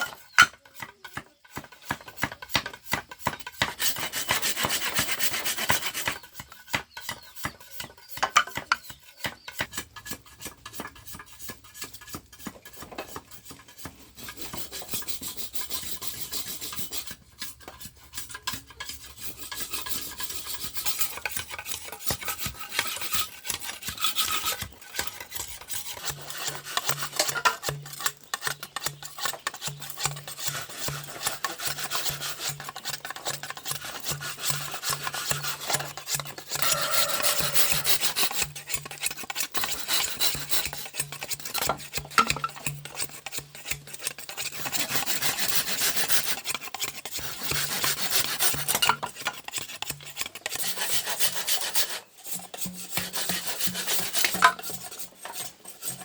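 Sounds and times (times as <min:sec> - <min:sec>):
hand tool rasping on bamboo: 0:00.0 - 0:56.0.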